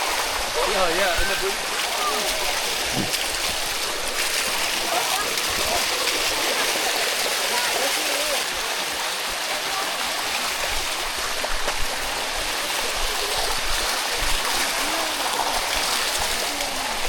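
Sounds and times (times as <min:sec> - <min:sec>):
faint voices: 0:00.0 - 0:10.9, 0:12.1 - 0:17.0
waterfall rushing: 0:00.0 - 0:17.0.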